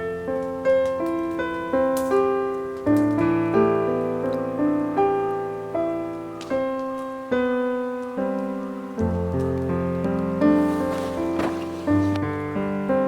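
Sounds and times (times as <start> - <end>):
gentle piano chords: 0.0 - 13.0.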